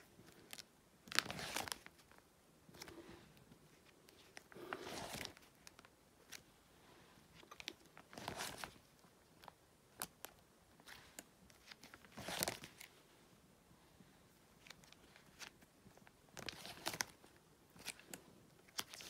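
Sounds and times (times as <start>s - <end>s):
plastic pages crinkling: 0.0s - 3.0s, 3.7s - 6.4s, 7.3s - 12.9s, 14.6s - 19.0s.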